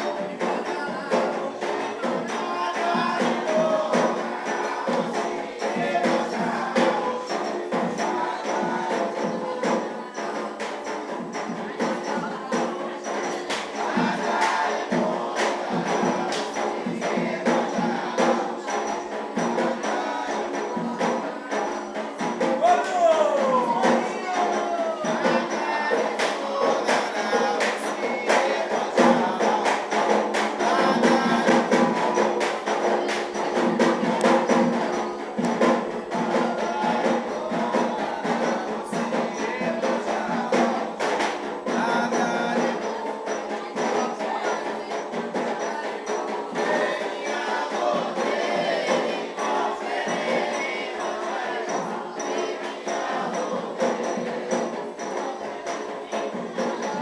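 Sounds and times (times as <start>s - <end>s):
fast steady percussion: 0.0s - 57.0s
group singing: 0.0s - 57.0s.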